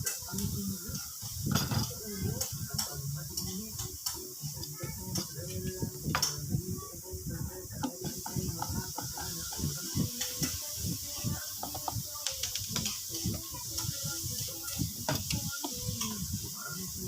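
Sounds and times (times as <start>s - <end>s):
indistinct talking: 0.0s - 17.0s.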